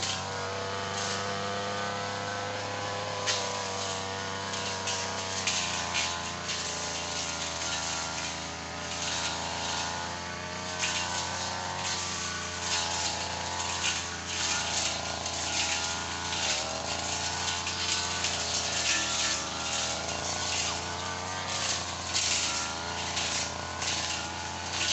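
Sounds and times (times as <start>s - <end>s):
engine running at high speed: 0.0s - 24.9s.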